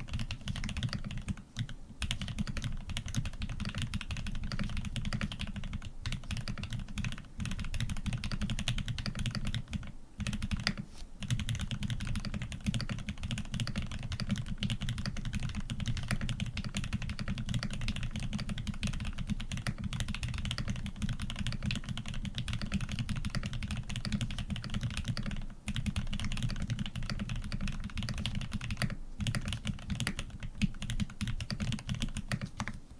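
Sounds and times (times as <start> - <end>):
mechanical keyboard typing: 0.0 - 32.8.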